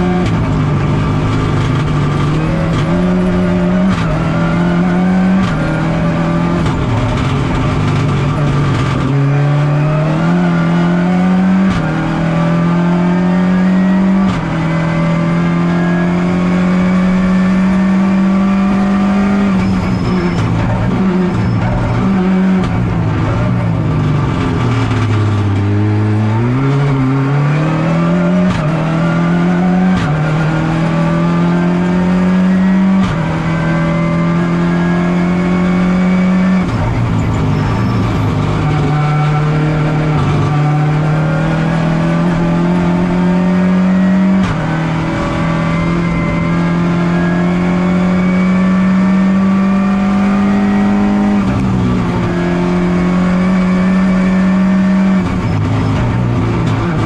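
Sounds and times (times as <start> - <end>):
rally car engine shifting gears: 0.0 - 57.0.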